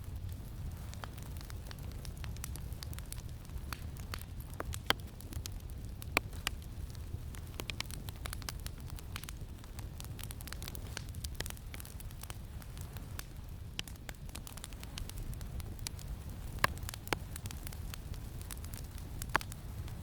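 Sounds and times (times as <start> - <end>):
campfire crackling and popping: 0.0 - 20.0
low rumble of wind: 0.0 - 20.0.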